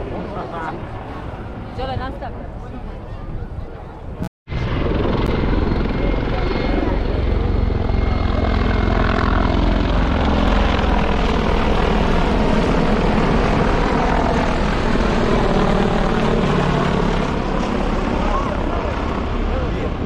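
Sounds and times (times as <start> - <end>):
helicopter rotor and turbine: 0.0 - 20.0.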